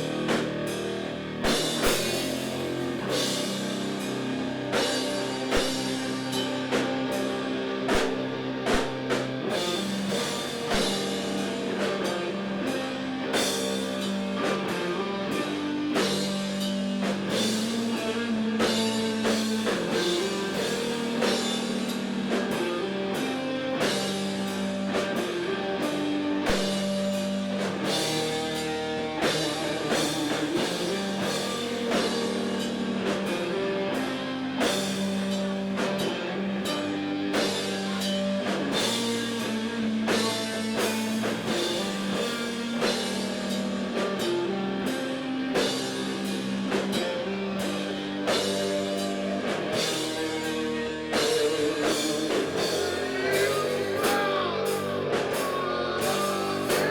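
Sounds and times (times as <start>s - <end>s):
bass guitar: 0.0s - 56.9s
drum kit: 0.0s - 56.9s
electric guitar: 0.0s - 56.9s.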